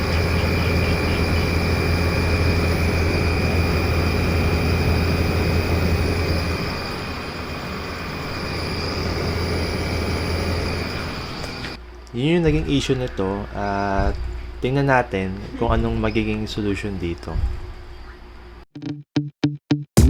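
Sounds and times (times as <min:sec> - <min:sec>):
high-pitched whine: 0:00.0 - 0:18.6
air conditioner fan hum: 0:00.0 - 0:18.7.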